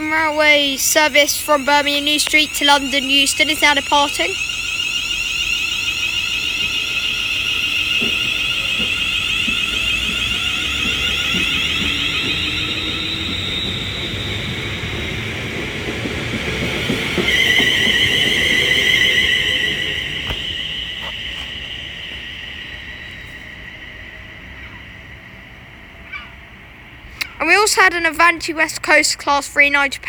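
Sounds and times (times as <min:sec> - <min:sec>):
electric train motor whine: 0:00.0 - 0:27.1
train wheel rumble: 0:00.0 - 0:29.4.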